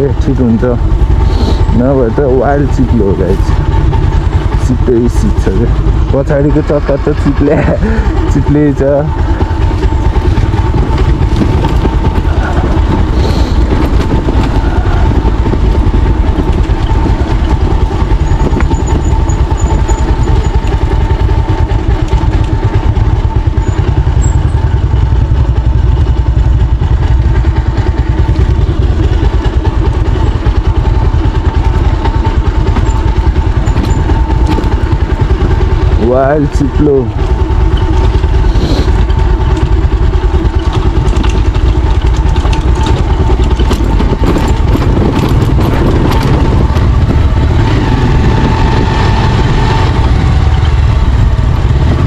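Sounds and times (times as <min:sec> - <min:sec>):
motorcycle engine rumbling: 0:00.0 - 0:52.0.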